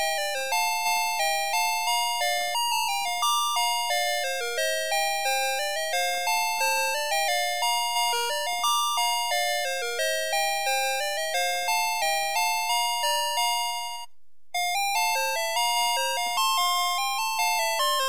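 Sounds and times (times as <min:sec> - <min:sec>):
toy electronic melody: 0:00.0 - 0:18.0.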